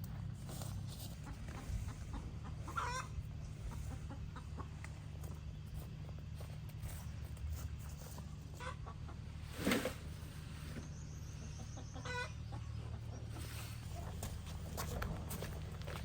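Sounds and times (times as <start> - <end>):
steady low hum: 0.0 - 16.0
chickens clucking: 0.7 - 16.0.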